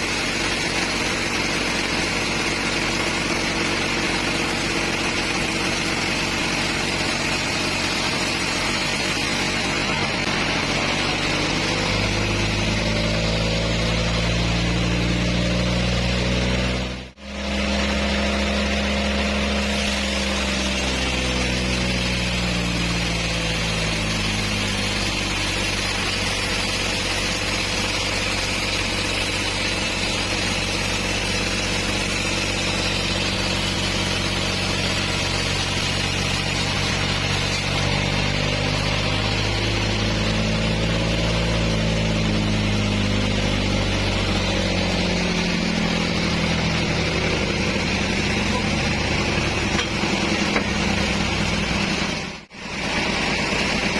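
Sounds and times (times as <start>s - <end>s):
band sawmill engine sawing log: 0.0s - 53.9s.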